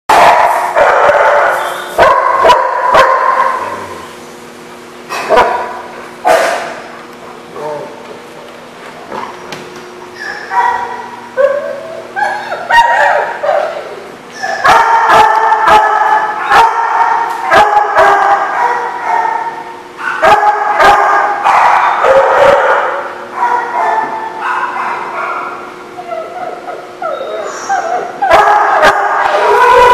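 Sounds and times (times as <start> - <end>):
dogs barking and yipping: 0.1 - 4.0, 5.1 - 6.8, 10.1 - 29.9.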